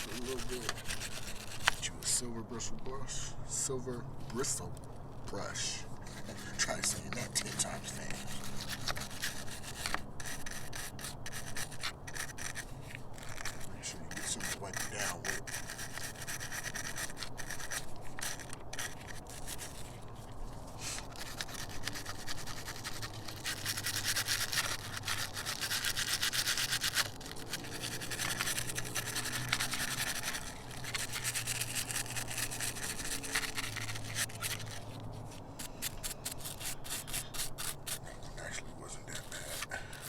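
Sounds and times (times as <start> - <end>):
bristle brush scrubbing metal: 0.0 - 2.2, 5.6 - 20.0, 20.8 - 40.0.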